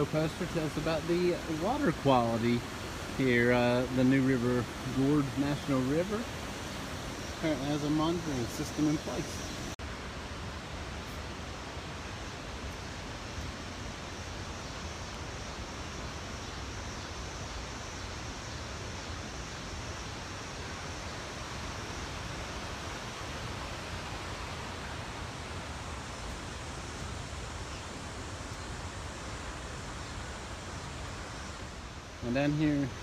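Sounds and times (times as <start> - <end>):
water rushing over rapids: 0.0 - 33.0.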